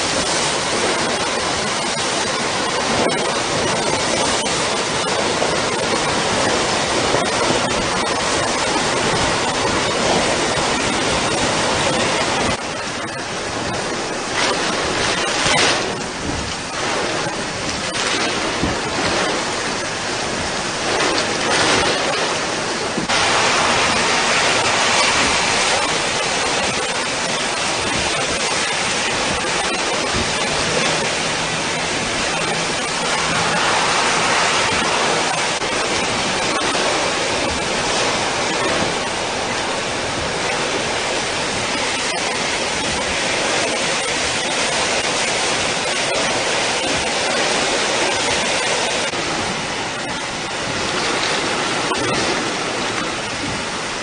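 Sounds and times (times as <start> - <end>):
driving rain: 0.0 - 54.0
hurricane wind: 0.0 - 54.0.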